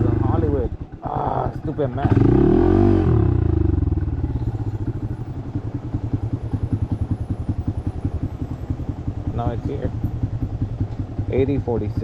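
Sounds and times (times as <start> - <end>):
motorcycle engine blip and idle: 0.0 - 2.4, 3.3 - 12.0.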